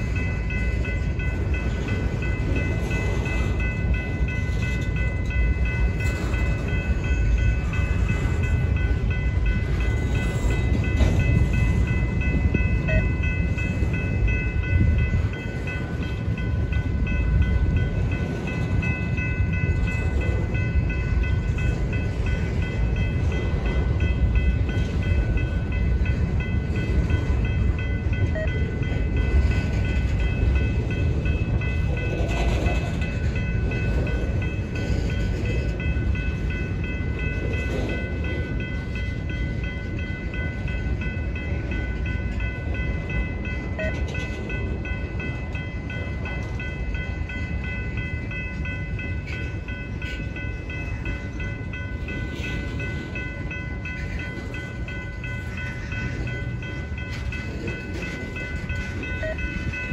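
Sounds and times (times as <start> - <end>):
high-pitched ringing tone: 0.0 - 33.2, 42.6 - 59.9
train wheels rumbling on rail: 0.0 - 59.9.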